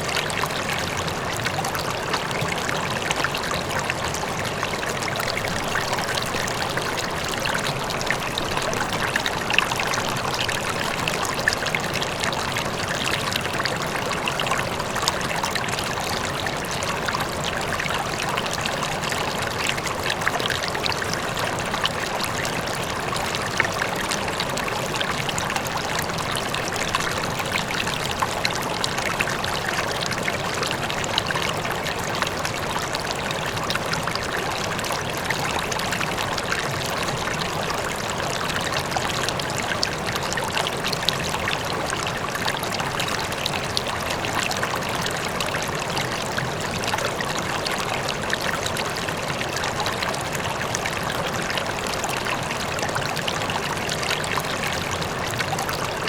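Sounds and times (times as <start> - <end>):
faint waterfall: 0.0 - 56.0
river water splashing over rocks: 0.0 - 56.0.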